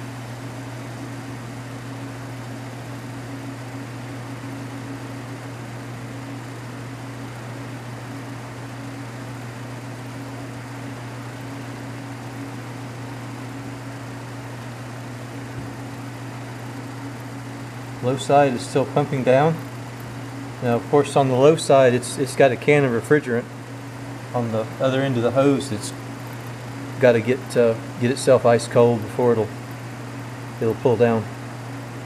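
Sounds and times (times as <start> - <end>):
refrigerator compressor humming: 0.0 - 32.0.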